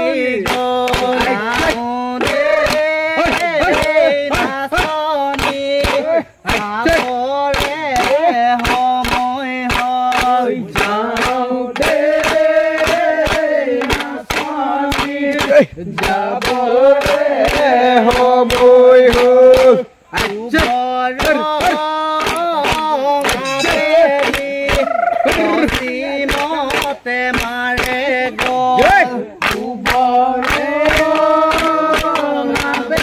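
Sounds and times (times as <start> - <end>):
fast percussion beat: 0.0 - 33.0
voices singing held notes: 0.0 - 33.0.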